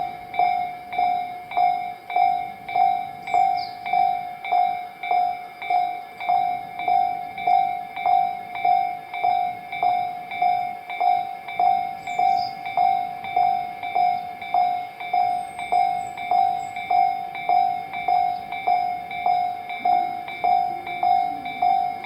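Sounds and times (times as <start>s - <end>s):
level crossing warning bell ringing: 0.0s - 22.0s.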